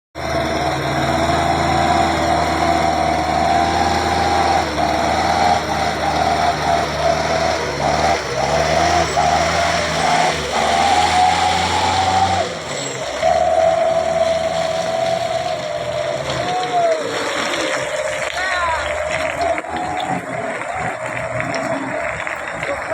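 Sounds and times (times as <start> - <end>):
small engine running: 0.2 - 22.9.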